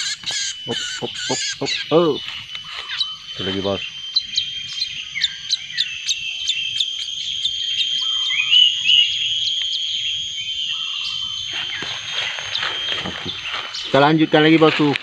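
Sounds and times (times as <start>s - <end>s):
high insect drone: 0.0s - 15.0s
songbird chirping: 0.0s - 15.0s.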